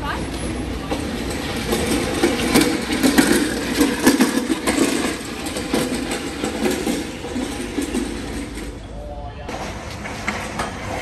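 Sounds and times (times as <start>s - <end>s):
metal sled scraping over concrete: 0.0s - 11.0s.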